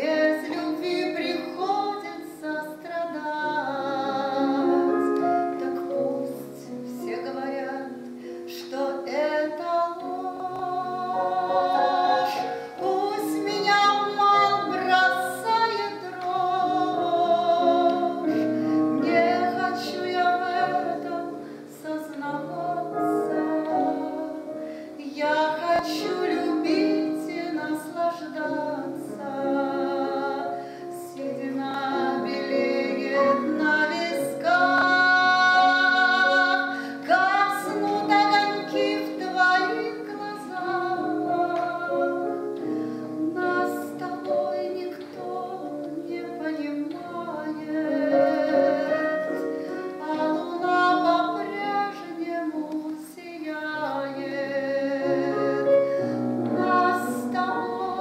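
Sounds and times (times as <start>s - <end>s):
piano: 0.0s - 58.0s
woman singing with vibrato: 0.0s - 58.0s.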